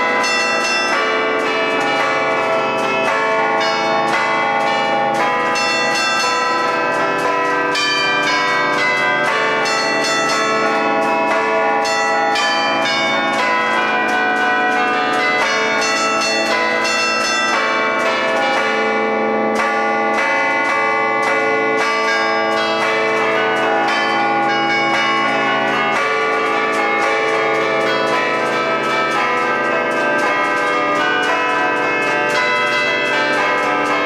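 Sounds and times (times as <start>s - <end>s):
church bells playing a tune: 0.0s - 34.0s.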